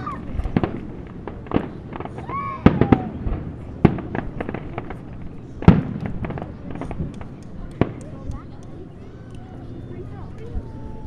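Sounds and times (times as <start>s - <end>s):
fireworks bangs and crackles: 0.0s - 9.1s.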